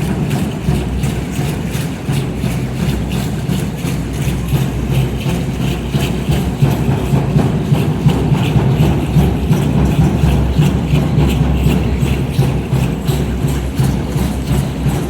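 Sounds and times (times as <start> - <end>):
large drums beating: 0.0 - 15.0.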